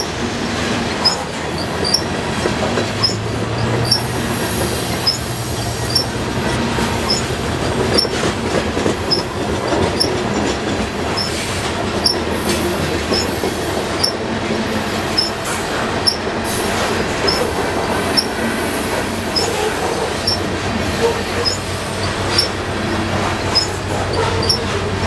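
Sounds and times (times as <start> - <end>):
freight cars rumbling on rails: 0.0 - 25.0
wheels clicking over rail joints: 0.0 - 25.0.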